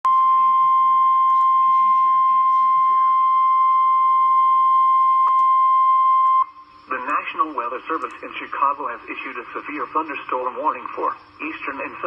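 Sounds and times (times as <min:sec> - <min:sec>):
steady warning alarm tone: 0:00.1 - 0:12.0.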